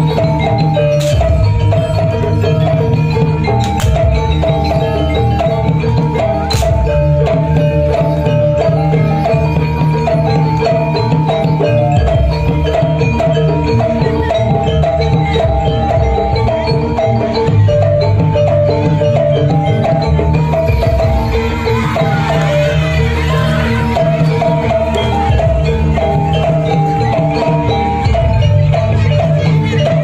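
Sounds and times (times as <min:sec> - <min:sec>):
metallophones playing melody: 0:00.0 - 0:30.0
steady drumming: 0:00.0 - 0:30.0.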